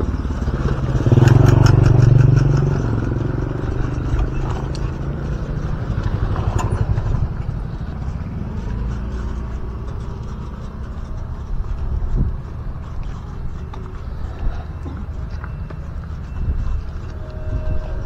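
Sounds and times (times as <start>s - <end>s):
motorcycle passing by: 0.0s - 18.0s
steady low rumble: 0.0s - 18.0s.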